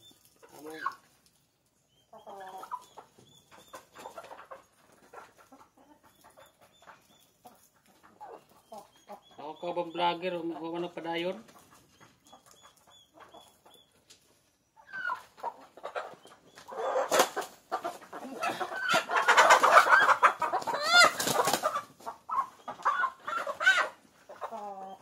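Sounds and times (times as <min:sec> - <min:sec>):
chickens squawking and cackling: 0:00.0 - 0:25.0.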